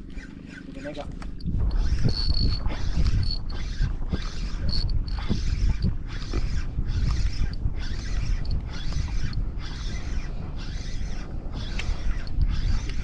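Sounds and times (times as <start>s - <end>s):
fishing reel whirring: 0.0s - 13.0s
low wind rumble: 0.0s - 13.0s.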